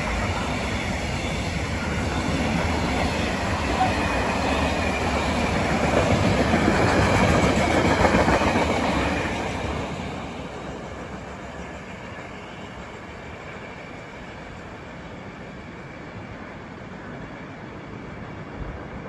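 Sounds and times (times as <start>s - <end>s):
train passing on track: 0.0s - 19.0s.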